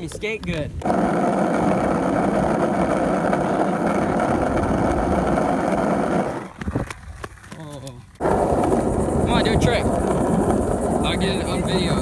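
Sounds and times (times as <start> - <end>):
skateboard wheels rolling on asphalt: 0.0 - 12.0.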